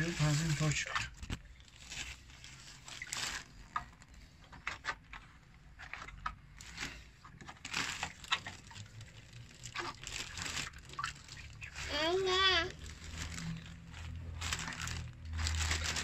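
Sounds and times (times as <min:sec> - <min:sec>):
plastic jug crinkling: 0:00.0 - 0:16.0
water sloshing: 0:00.0 - 0:16.0.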